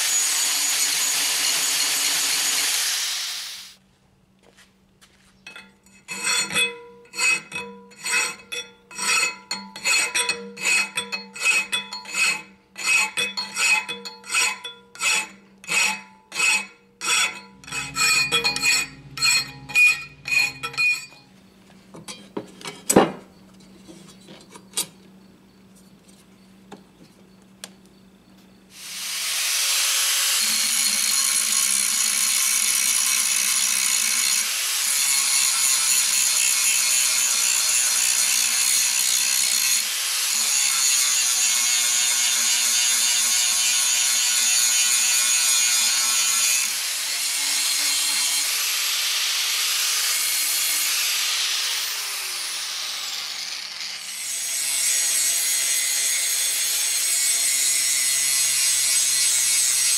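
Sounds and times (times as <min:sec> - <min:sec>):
angle grinder cutting steel: 0:00.0 - 0:03.8, 0:05.9 - 0:21.2, 0:28.7 - 0:59.9.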